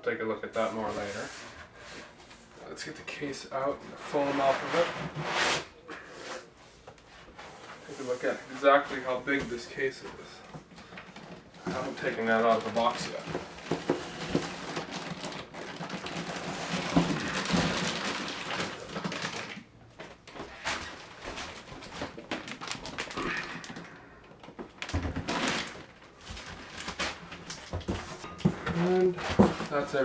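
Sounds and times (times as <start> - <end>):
cardboard and foam rustling: 0.5 - 30.0.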